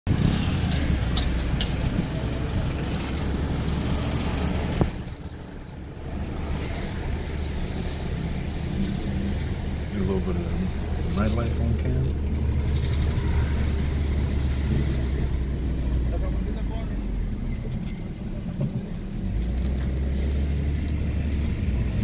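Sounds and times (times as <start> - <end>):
car engine and tyres rumbling: 0.0 - 22.0
street and wind noise: 0.0 - 22.0.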